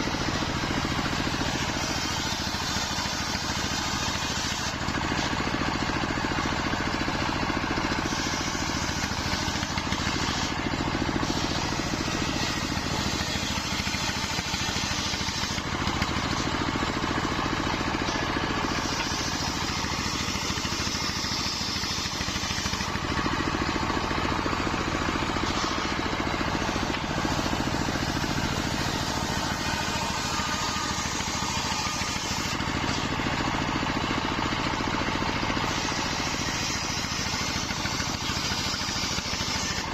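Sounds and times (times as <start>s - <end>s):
saw blade hissing through wood: 0.0s - 6.5s, 7.5s - 39.9s
circular saw motor hum: 0.0s - 39.9s.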